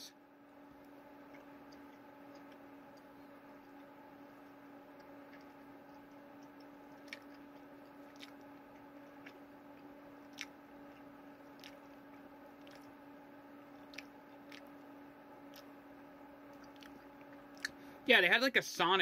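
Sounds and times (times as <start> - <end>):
steady low hum: 0.0 - 19.0
person chewing: 0.5 - 18.0
wet mouth clicks and squishes: 0.7 - 14.8, 15.4 - 15.8, 16.4 - 17.8.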